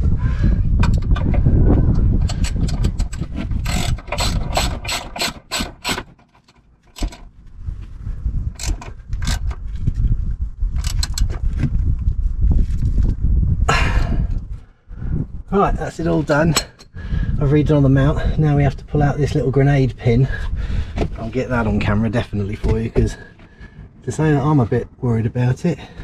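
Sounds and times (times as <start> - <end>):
low rumble: 0.0 - 5.0, 7.2 - 26.0.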